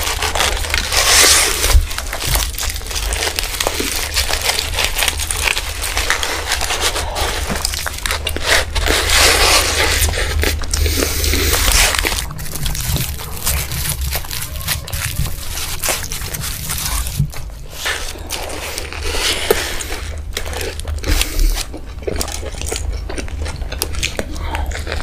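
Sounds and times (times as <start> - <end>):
aluminium foil crinkling: 0.0 - 25.0
chewing: 0.0 - 25.0.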